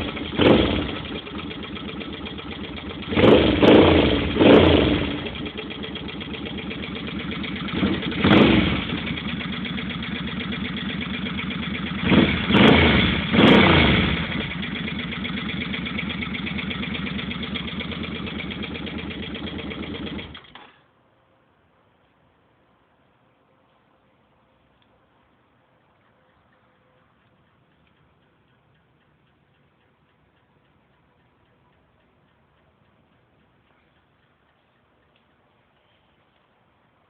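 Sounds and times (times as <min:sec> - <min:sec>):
engine tapping noise: 0:00.0 - 0:20.6, 0:26.3 - 0:35.8
motorcycle engine idling: 0:00.0 - 0:20.6, 0:25.8 - 0:37.0.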